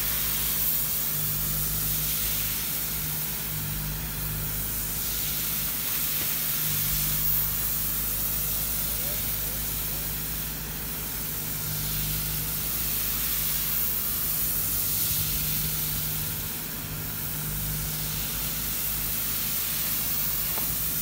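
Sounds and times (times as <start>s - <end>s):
foam gun hissing: 0.0s - 21.0s.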